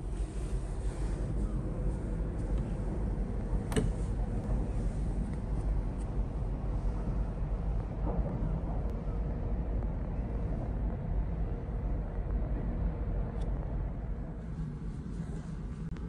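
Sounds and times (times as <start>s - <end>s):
faint steady hum: 0.0s - 16.0s
ferry engine low rumble: 0.0s - 16.0s.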